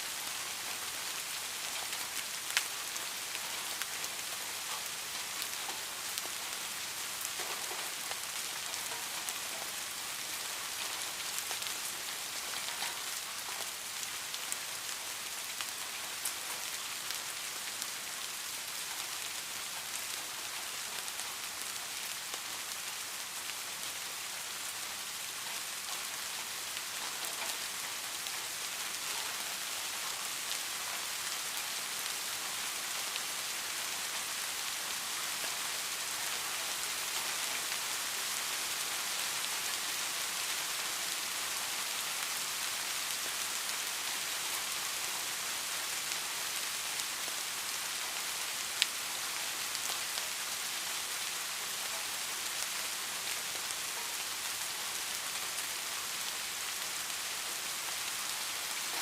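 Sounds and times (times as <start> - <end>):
raindrops pattering: 0.0 - 59.0
steady rain hissing: 0.0 - 59.0.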